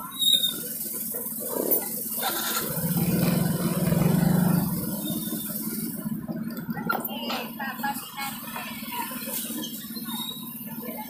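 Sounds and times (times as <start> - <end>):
motor scooter engine running: 0.6 - 11.0.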